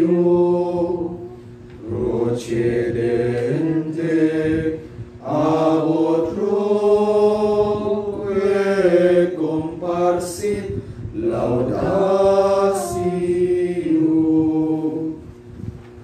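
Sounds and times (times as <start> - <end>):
slow chanted hymn: 0.0 - 16.0.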